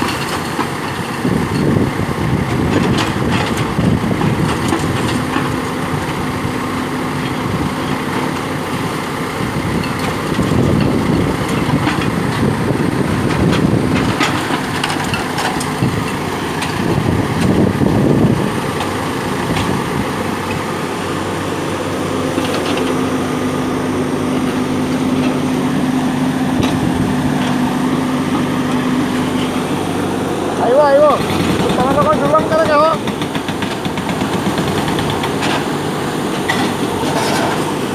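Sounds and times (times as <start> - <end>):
diesel engines running: 0.0 - 37.9.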